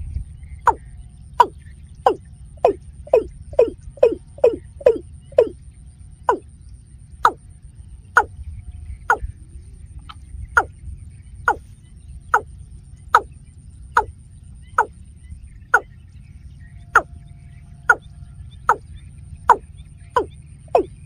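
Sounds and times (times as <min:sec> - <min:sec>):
low wind rumble: 0:00.0 - 0:21.0.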